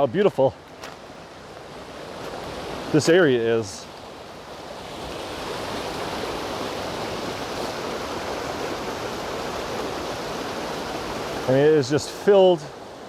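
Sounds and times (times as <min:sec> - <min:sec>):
creek water rushing over rocks: 0:00.0 - 0:13.0.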